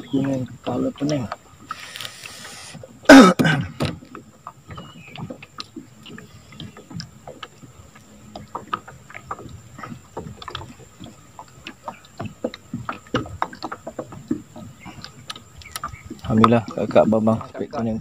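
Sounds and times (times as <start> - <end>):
fishing gear clicking in metal boat: 0.0 - 3.0, 3.6 - 18.0.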